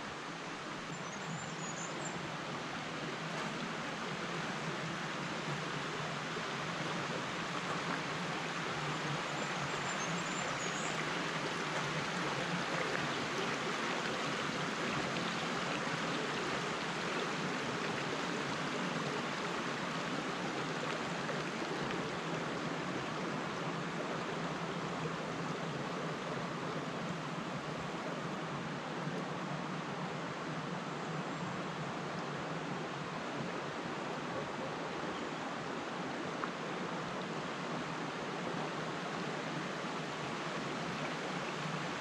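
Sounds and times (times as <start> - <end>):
river babbling over rocks: 0.0 - 42.0.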